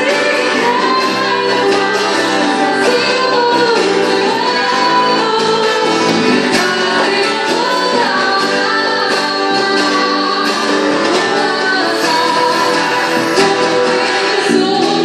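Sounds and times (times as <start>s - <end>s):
group singing worship song: 0.0s - 15.0s
instrumental accompaniment: 0.0s - 15.0s.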